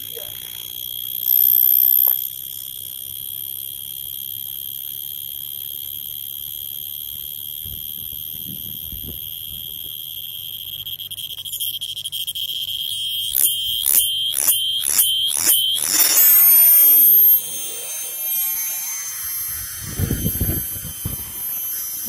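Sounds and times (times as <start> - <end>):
cicada buzzing: 0.0 - 22.0.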